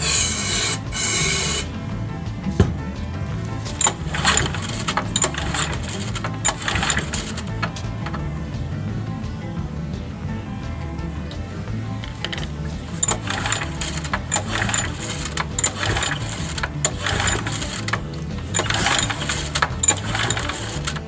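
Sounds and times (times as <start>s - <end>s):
hand tools clicking and rattling: 0.0s - 21.0s.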